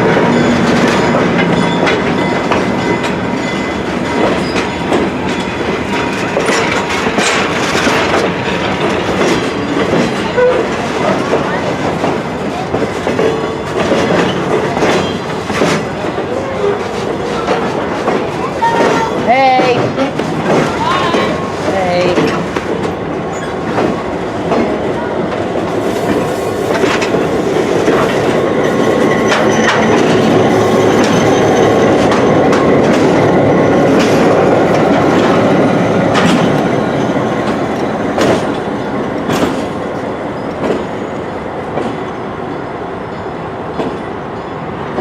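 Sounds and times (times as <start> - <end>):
train wheels clicking over joints: 0.0 - 42.7.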